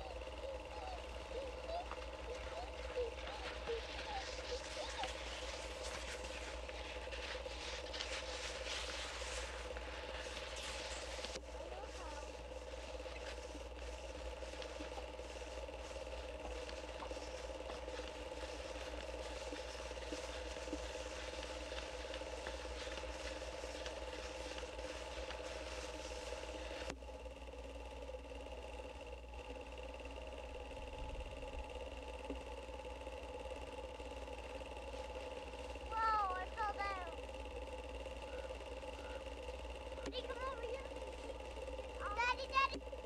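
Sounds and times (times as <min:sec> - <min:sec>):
steady hum and hiss: 0:00.0 - 0:43.0.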